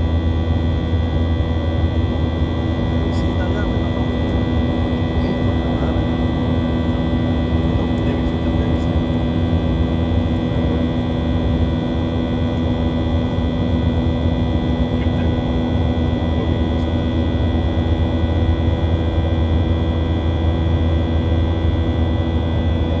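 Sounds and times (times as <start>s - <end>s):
airplane cabin engine drone: 0.0s - 23.0s
steady engine whining tones: 0.0s - 23.0s.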